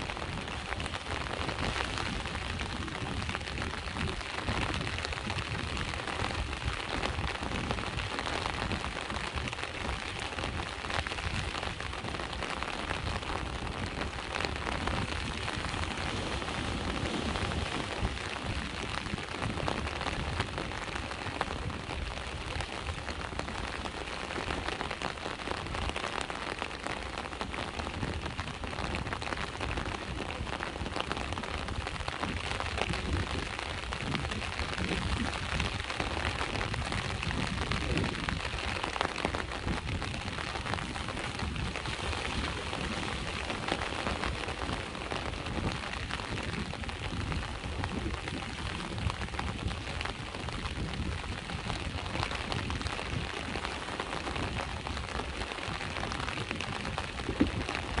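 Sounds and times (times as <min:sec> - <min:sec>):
rain pattering: 0:00.0 - 0:58.0
sea waves washing on shore: 0:00.0 - 0:58.0.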